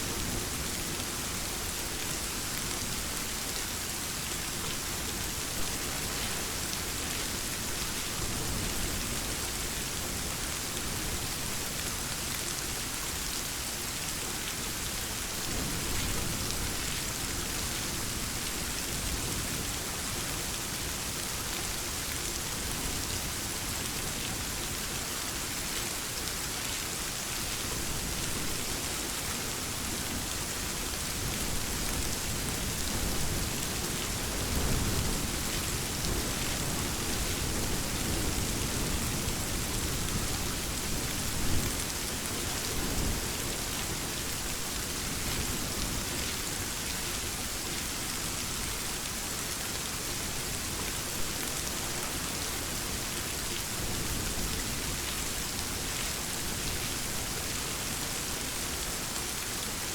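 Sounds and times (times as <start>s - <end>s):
dense rainfall: 0.0s - 59.9s.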